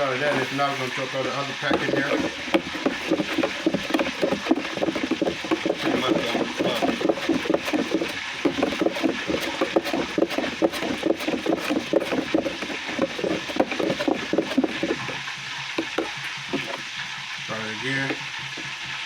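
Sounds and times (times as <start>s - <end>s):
hot oil sizzling: 0.0s - 19.0s
spoon stirring in a container: 0.0s - 19.0s.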